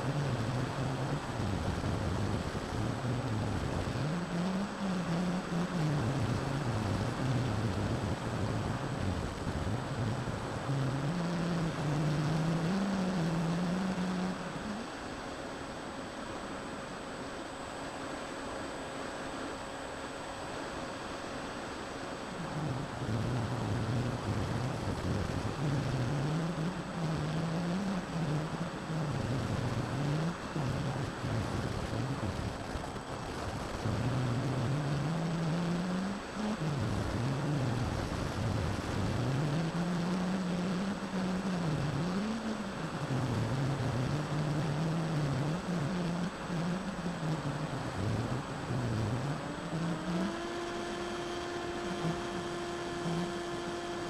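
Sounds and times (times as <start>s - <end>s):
electric motor and propeller whine: 0.0s - 54.0s
steady hum: 0.0s - 54.0s.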